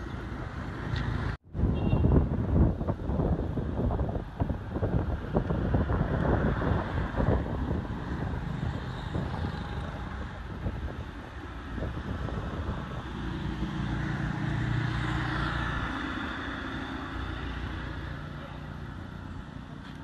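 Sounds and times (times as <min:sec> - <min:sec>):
wind buffeting microphone: 0:00.0 - 0:18.3.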